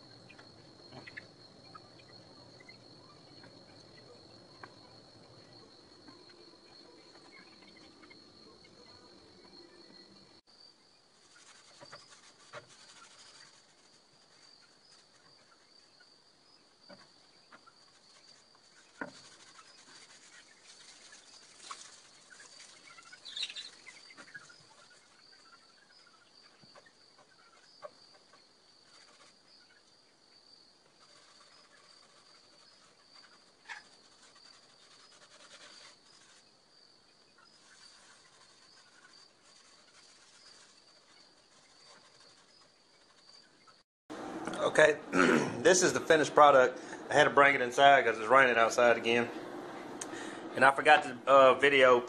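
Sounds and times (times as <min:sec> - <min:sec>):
crickets chirring: 0:00.0 - 0:43.8.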